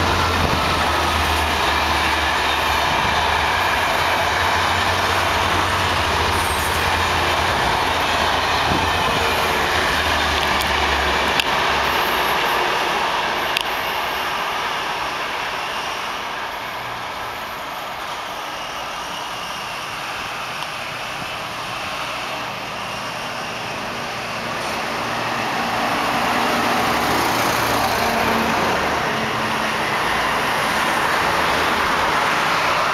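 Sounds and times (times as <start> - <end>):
passenger train departing: 0.0 - 32.9
road traffic noise: 0.0 - 32.9.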